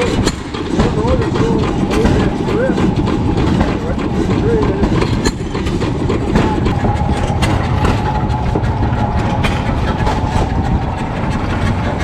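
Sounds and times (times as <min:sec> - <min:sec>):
heavy engine rumbling: 0:00.0 - 0:12.0.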